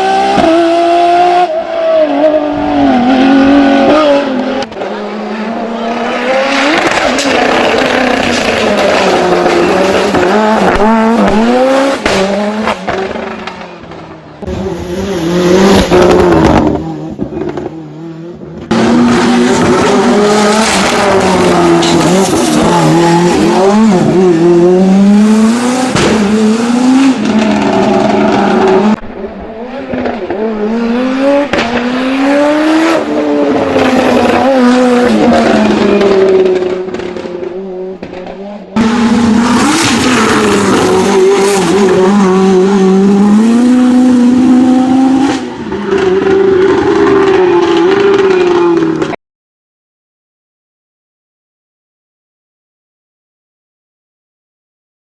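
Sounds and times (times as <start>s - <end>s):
race car engine at full throttle: 0.0s - 49.2s.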